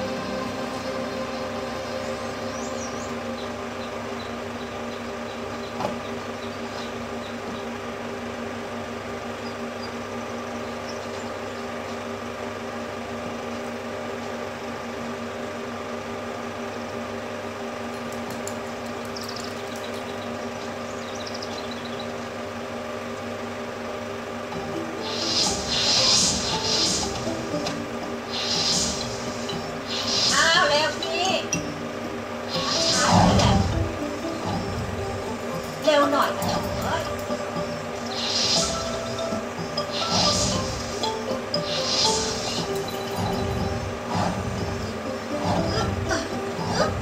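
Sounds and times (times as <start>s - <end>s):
film projector whirring: 0.0s - 47.0s.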